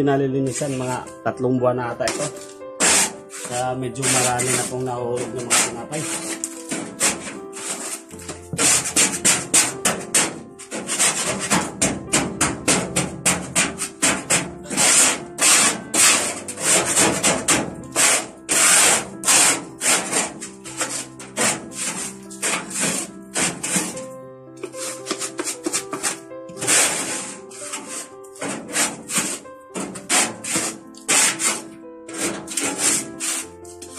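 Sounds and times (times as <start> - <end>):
brush sweeping on metal: 0.5 - 1.0, 2.1 - 11.5, 13.5 - 17.3, 18.0 - 24.0, 24.6 - 33.9.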